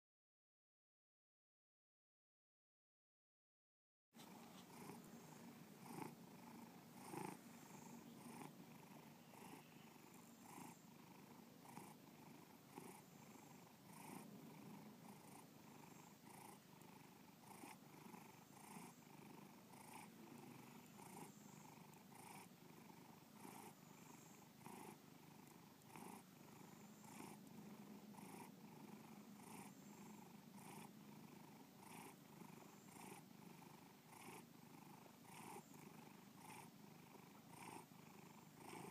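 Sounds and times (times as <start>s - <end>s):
cat purring: 4.2s - 38.9s.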